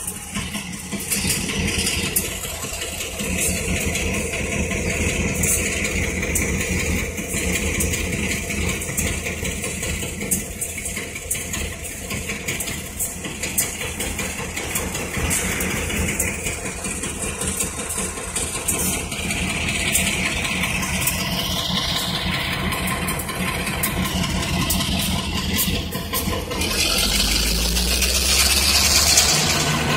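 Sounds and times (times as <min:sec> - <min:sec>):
diesel locomotive engine idling: 0:00.0 - 0:29.9.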